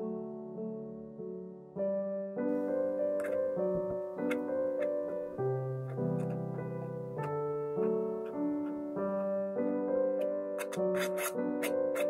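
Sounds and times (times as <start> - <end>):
background piano music: 0.0 - 12.0.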